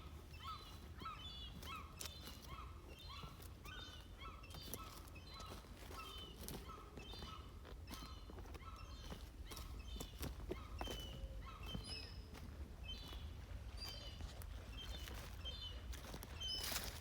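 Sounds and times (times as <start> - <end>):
footsteps squeaking and crunching: 0.0 - 17.0.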